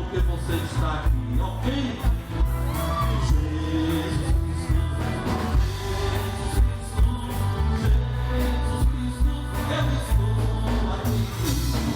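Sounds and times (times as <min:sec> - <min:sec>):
pop band with bass and drums: 0:00.0 - 0:11.9.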